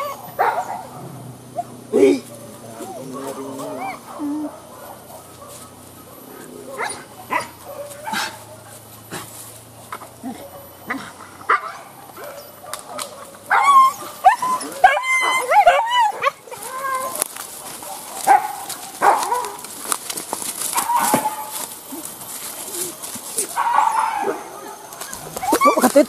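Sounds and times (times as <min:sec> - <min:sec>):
dogs whining and yelping: 0:00.0 - 0:08.8, 0:09.9 - 0:19.7, 0:20.6 - 0:26.0.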